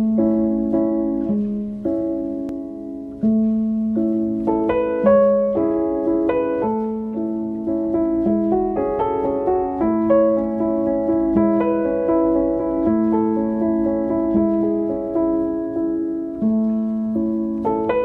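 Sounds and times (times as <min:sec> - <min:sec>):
calm piano music: 0:00.0 - 0:18.0.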